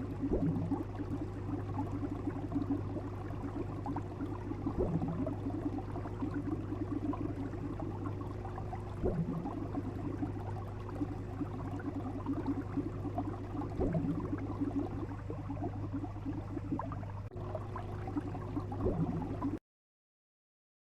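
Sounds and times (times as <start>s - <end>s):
steady low hum: 0.0s - 19.6s
water bubbling and crackling: 0.0s - 19.6s.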